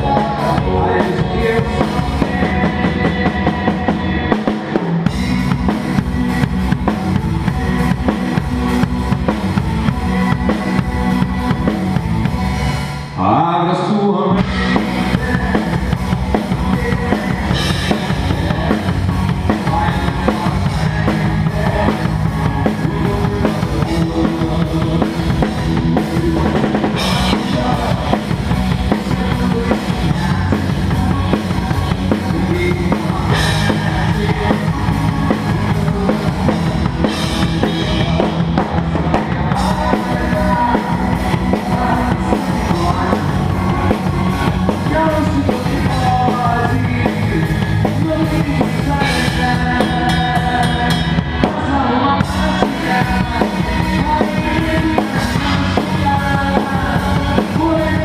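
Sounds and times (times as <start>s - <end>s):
drum kit playing: 0.0s - 13.4s, 14.3s - 58.0s
rock backing track: 0.0s - 13.4s, 14.2s - 58.0s.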